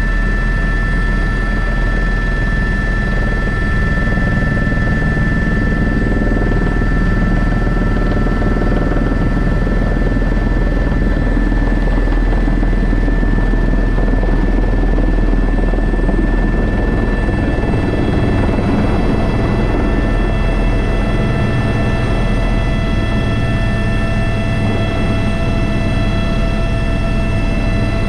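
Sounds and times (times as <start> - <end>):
helicopter rotor and engine: 0.0 - 28.0
high turbine whine: 0.0 - 28.0.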